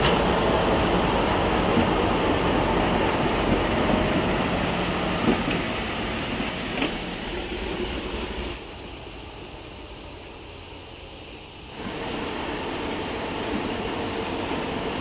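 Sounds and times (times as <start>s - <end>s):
train cars rolling on rails: 0.0s - 11.0s, 11.7s - 15.0s
sharp clicks of train wheels: 0.0s - 15.0s.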